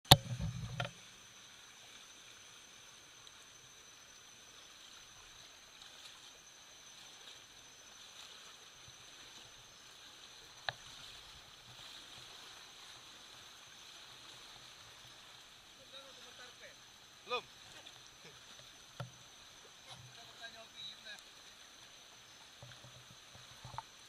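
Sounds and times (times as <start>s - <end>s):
river current rushing: 0.7s - 24.0s.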